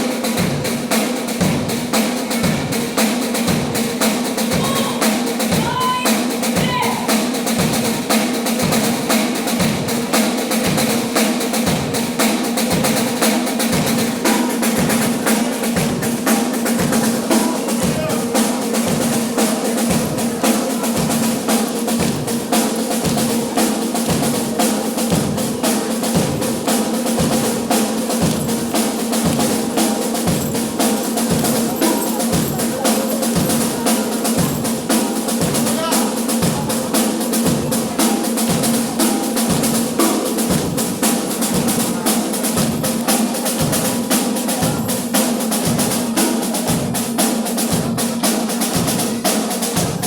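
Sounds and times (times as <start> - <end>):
snare drum rolls: 0.0 - 50.0.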